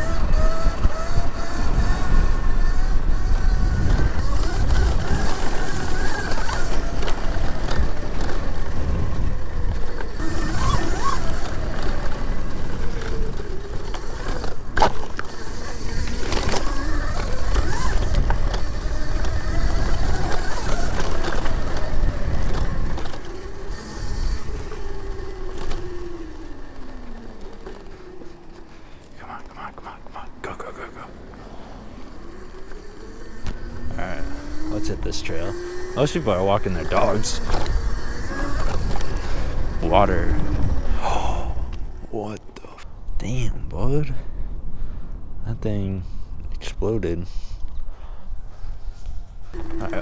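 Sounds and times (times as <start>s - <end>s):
electric motor whine: 0.0s - 42.2s, 48.6s - 50.0s
wind: 0.0s - 50.0s.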